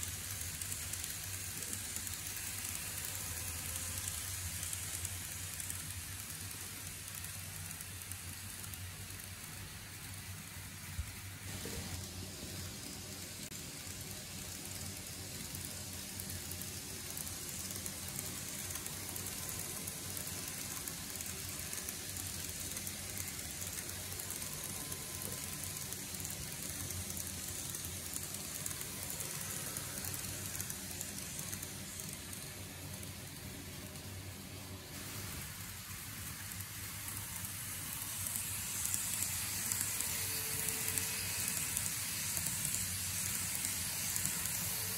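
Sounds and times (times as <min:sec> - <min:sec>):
model train motor whirring: 0:00.0 - 0:44.9.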